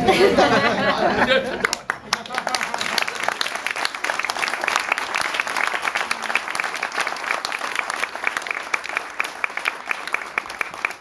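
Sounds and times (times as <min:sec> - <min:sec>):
people clapping: 0:01.4 - 0:11.0.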